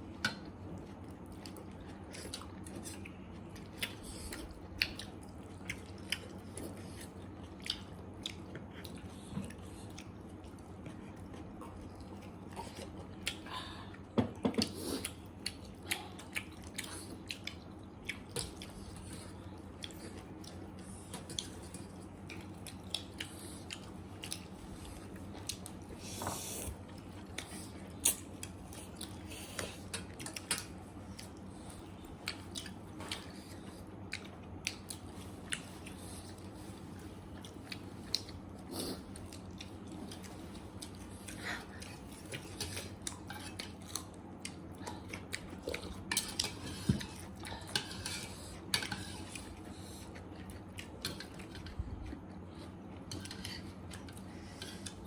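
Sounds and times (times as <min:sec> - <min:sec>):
steady low hum: 0:00.0 - 0:55.0
chewing and mouth smacks: 0:00.2 - 0:55.0.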